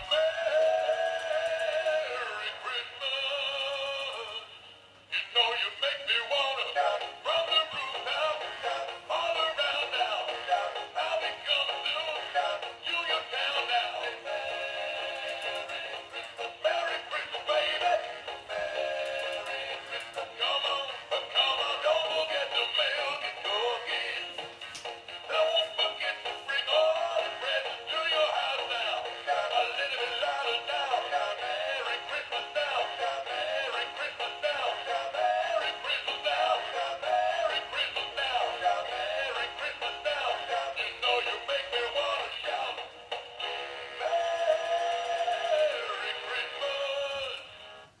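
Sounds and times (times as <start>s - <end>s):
music: 0.0s - 48.0s.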